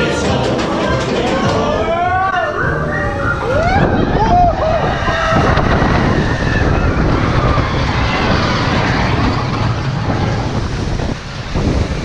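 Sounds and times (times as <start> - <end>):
roller coaster rumbling: 0.0 - 12.0.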